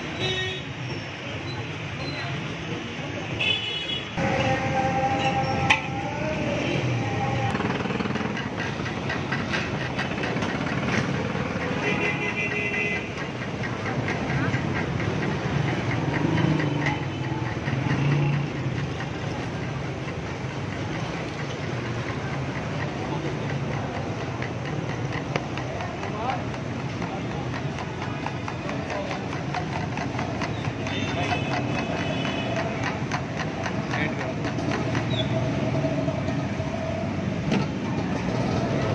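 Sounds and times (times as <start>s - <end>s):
traffic noise: 0.0s - 38.9s.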